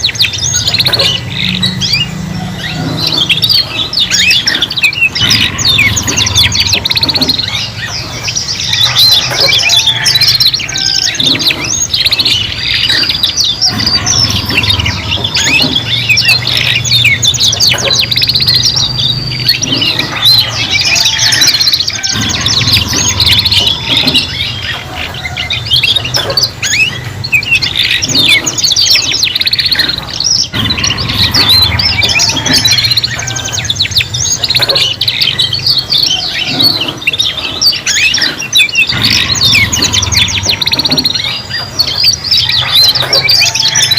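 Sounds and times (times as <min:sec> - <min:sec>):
canaries singing: 0:00.0 - 0:43.9.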